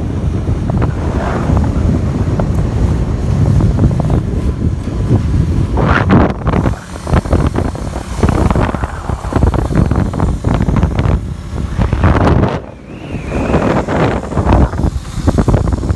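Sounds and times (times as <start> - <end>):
wind buffeting on microphone: 0.0 - 15.9.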